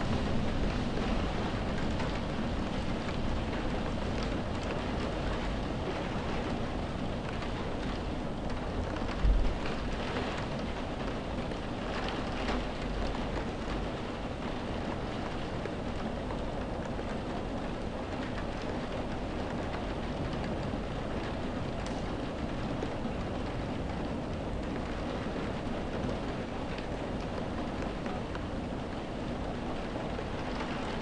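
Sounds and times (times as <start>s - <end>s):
heavy rain on window glass: 0.0s - 31.0s
wind: 0.0s - 31.0s.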